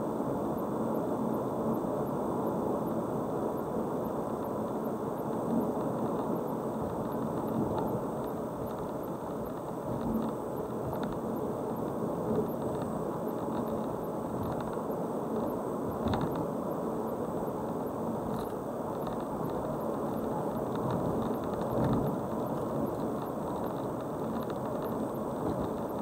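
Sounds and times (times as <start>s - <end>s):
car tyre and engine noise: 3.2s - 26.0s.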